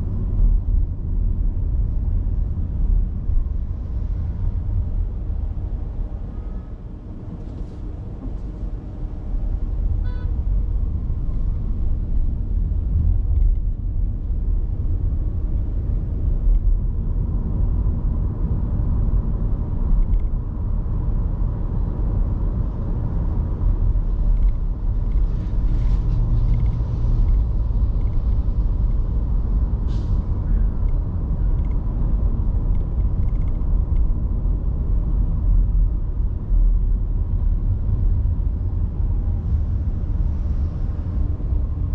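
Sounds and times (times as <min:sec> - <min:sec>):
car driving on road: 0:00.0 - 0:41.9.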